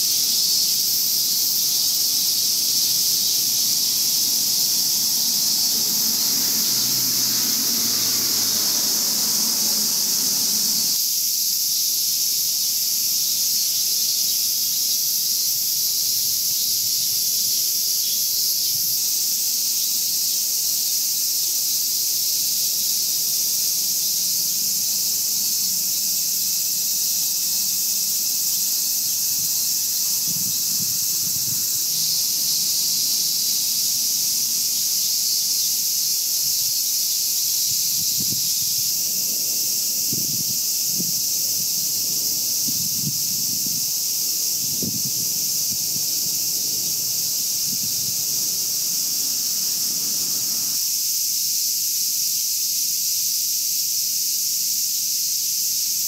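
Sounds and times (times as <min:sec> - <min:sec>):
cicadas chorus: 0:00.0 - 0:56.0.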